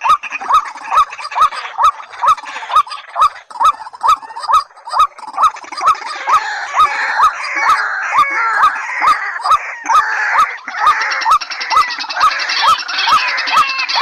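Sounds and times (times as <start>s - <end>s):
chattering chorus of bird calls: 0.0s - 14.0s.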